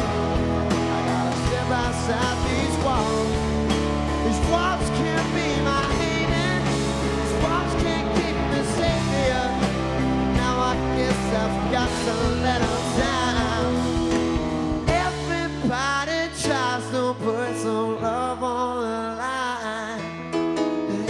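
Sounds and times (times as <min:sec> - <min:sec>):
live rock band playing: 0:00.0 - 0:21.0
man singing: 0:00.0 - 0:21.0.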